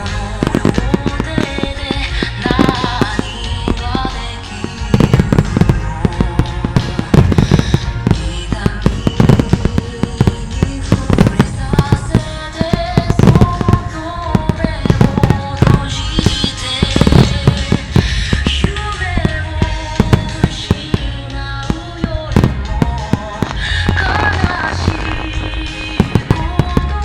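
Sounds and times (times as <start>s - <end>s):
fireworks bangs and crackles: 0.0s - 27.0s
loud music: 0.0s - 27.0s.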